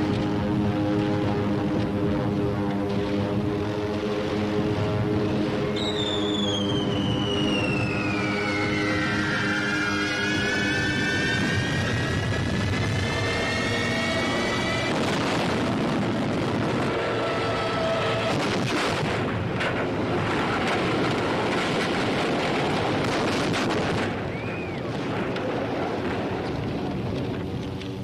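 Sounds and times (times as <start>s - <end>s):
bomb blasts: 0.0s - 27.2s
anti-aircraft fire: 0.0s - 28.0s.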